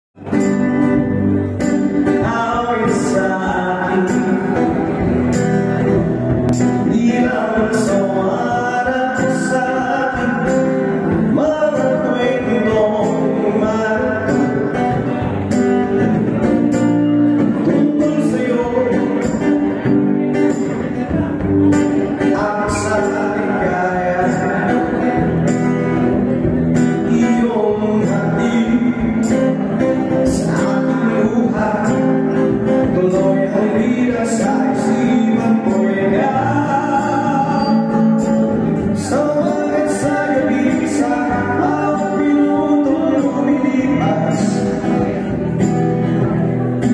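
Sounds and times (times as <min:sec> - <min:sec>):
man singing amplified: 0:00.2 - 0:46.9
strummed acoustic guitar: 0:00.2 - 0:46.9.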